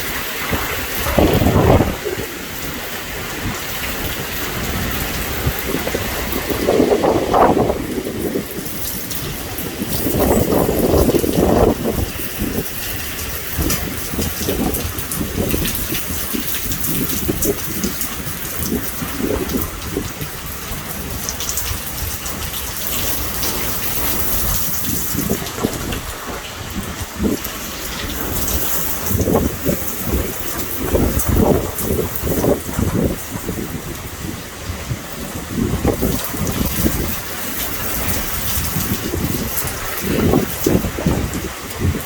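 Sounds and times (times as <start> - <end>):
heavy rain pouring: 0.0 - 42.0
thunder rumbles: 0.0 - 42.0.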